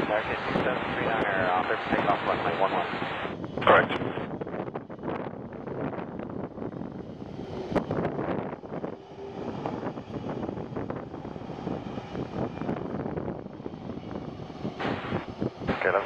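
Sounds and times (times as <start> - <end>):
distant jet engines: 0.0 - 16.0
wind noise on microphone: 0.0 - 16.0.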